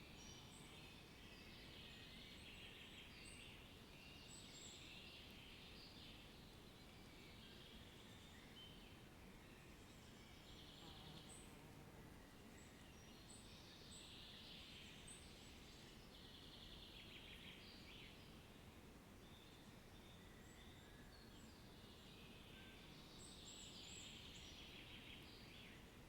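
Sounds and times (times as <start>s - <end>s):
low background hiss: 0.0s - 26.0s.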